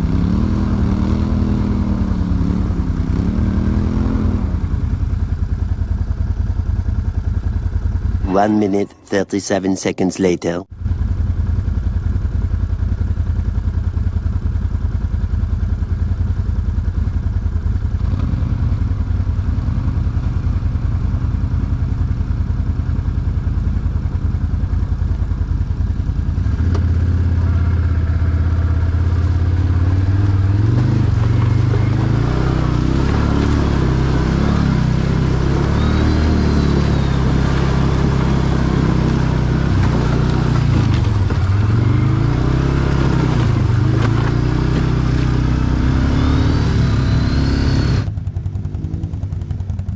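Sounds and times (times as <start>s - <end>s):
quad engine idling and revving: 0.0s - 49.9s.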